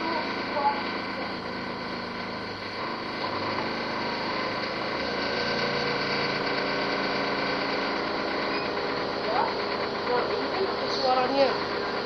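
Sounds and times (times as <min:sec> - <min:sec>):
held whining tones: 0:00.0 - 0:12.0
machine droning: 0:00.0 - 0:12.0.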